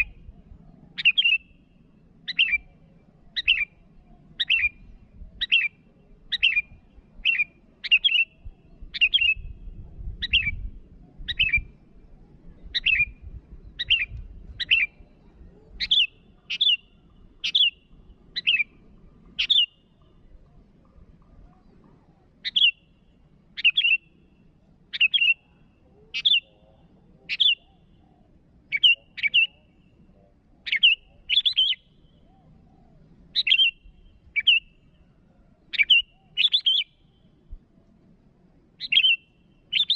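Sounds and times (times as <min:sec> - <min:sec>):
bird calling sharp notes: 0:01.0 - 0:09.6, 0:12.6 - 0:15.1, 0:15.7 - 0:20.2, 0:21.6 - 0:37.3, 0:38.8 - 0:39.9.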